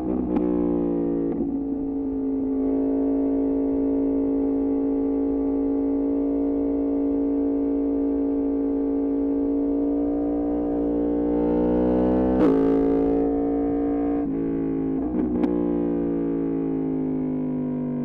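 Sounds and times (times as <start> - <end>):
motorcycle engine droning: 0.0 - 18.0.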